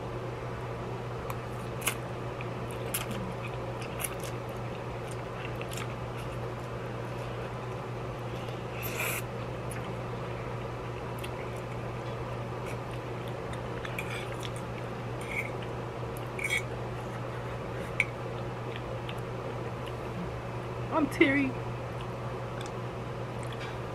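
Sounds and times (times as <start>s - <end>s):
steady fan hum: 0.0s - 23.9s.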